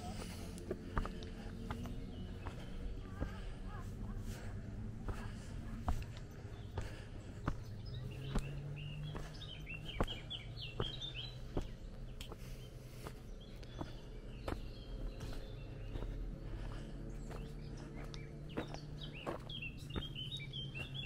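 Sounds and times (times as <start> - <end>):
footsteps on dirt path: 0.0 - 21.0
songbird chirping: 0.0 - 21.0.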